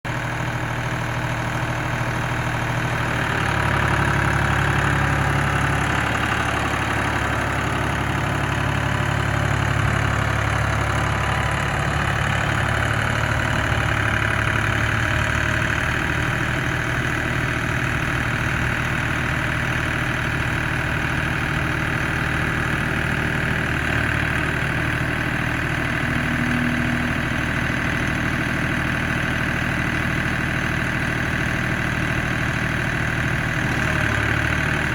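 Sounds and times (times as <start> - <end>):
tractor engine idling: 0.1 - 34.9.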